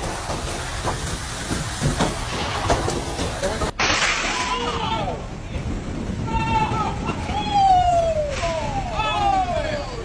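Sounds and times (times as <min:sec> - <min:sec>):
hurricane wind roaring: 0:00.0 - 0:10.0
wind gusts rumbling on microphone: 0:00.0 - 0:10.0.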